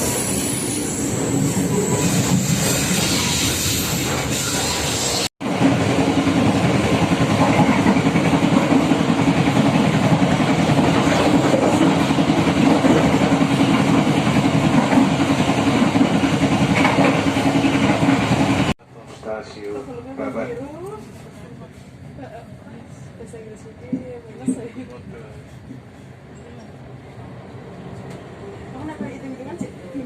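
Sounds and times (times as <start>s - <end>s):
train running on rails: 0.0s - 30.0s.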